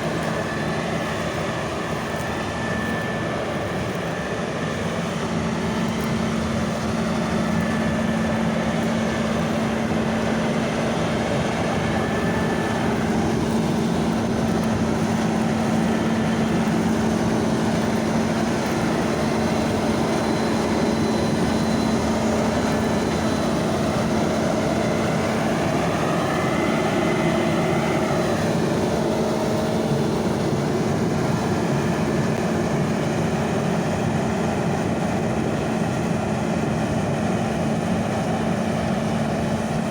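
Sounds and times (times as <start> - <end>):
diesel farm machine running: 0.0 - 39.9
faint whine: 0.0 - 39.9.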